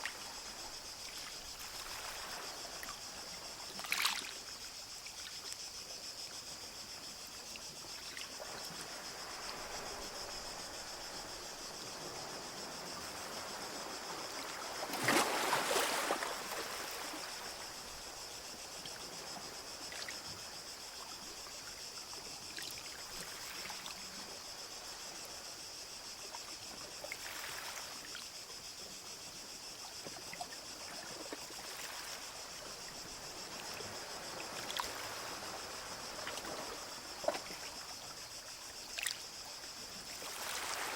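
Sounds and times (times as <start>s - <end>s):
small waves lapping on a beach: 0.0s - 40.9s.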